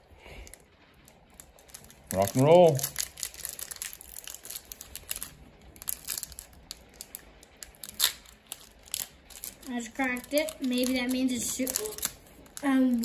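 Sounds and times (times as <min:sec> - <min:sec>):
foil wrapper crinkling: 0:00.2 - 0:13.0.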